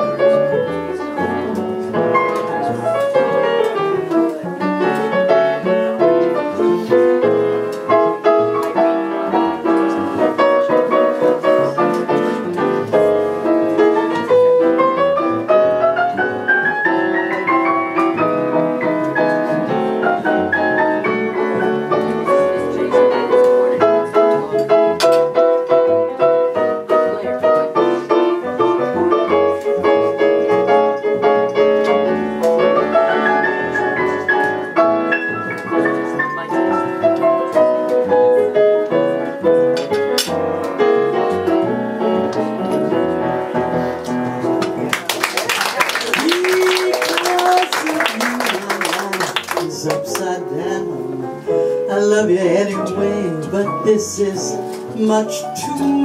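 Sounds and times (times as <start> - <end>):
jazz piano solo: 0.0 - 56.0.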